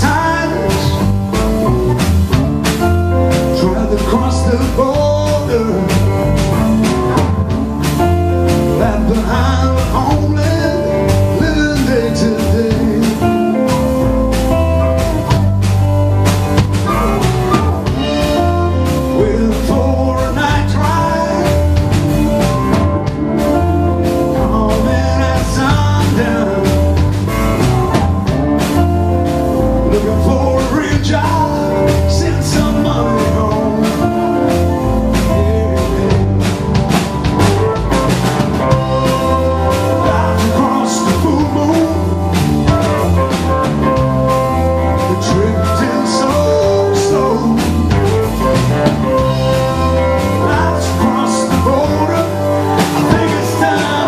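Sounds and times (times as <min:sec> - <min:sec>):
man singing: 0:00.0 - 0:07.3, 0:07.9 - 0:14.4, 0:17.5 - 0:22.8, 0:23.4 - 0:27.7, 0:29.6 - 0:36.6, 0:38.6 - 0:54.0
acoustic guitar: 0:00.0 - 0:54.0
bass guitar: 0:00.0 - 0:54.0
drum kit: 0:00.0 - 0:54.0
electric guitar: 0:00.0 - 0:54.0.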